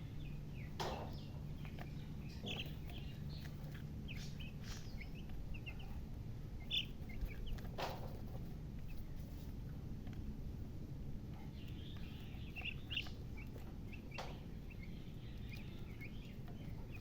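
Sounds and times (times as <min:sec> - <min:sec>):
chickens chirping: 0:00.0 - 0:17.0.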